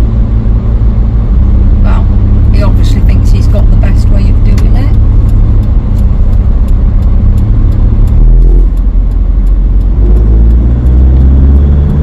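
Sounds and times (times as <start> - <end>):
engine and road rumble inside cab: 0.0 - 12.0.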